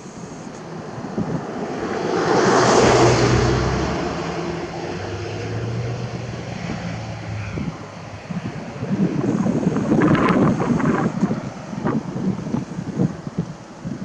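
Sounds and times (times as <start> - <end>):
low engine hum: 0.0 - 14.0
vehicle passing by: 0.6 - 13.1.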